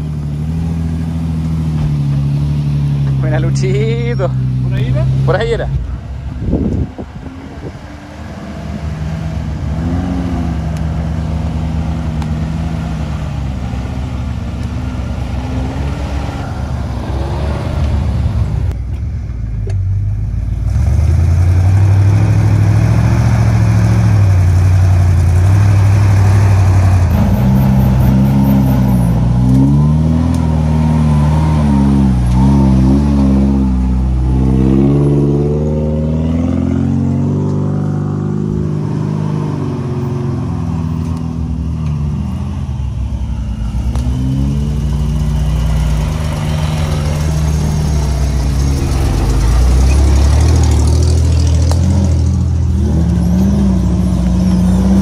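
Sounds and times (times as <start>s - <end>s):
off-road vehicle engine revving: 0.0s - 18.8s, 19.6s - 55.0s.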